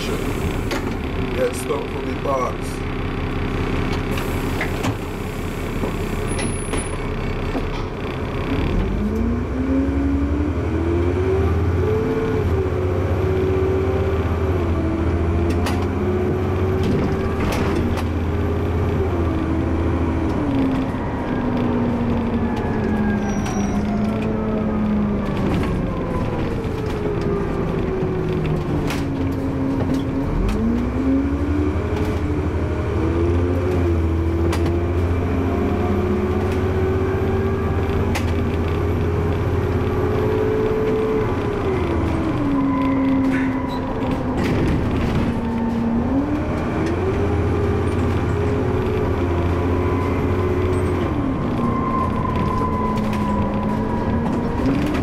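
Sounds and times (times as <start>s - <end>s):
bus engine low rumble: 0.0s - 55.0s
bus transmission whine: 0.0s - 55.0s.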